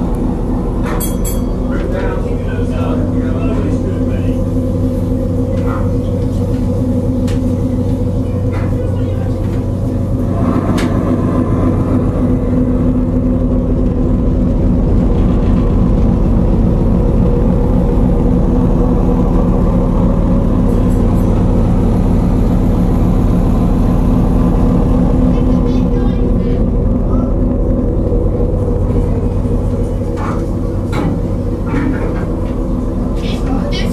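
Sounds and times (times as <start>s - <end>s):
diesel engine room drone: 0.0s - 33.9s.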